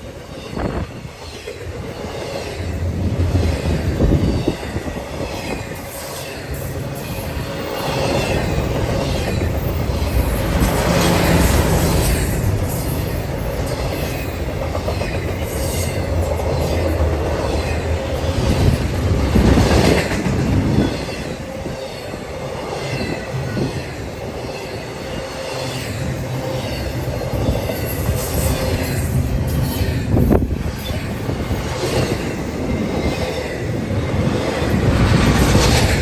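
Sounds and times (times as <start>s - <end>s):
clickety-clack over rail joints: 0.0s - 36.0s
freight train rumbling past: 0.0s - 36.0s.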